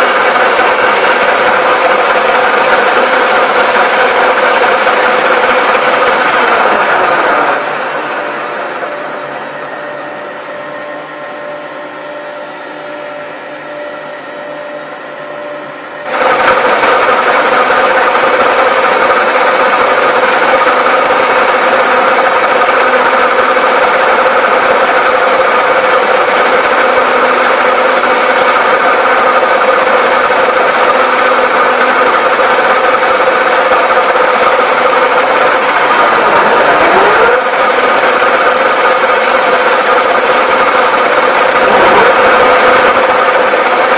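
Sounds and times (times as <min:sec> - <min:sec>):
lathe running with mechanical hum: 0:00.0 - 0:43.9.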